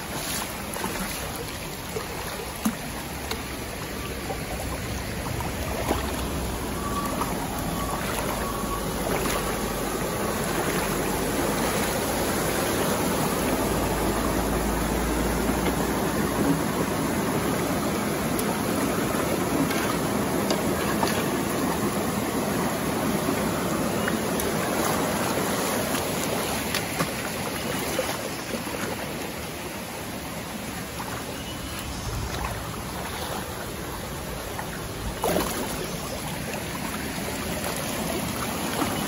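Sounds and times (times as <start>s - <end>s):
flowing river water: 0.0s - 39.0s.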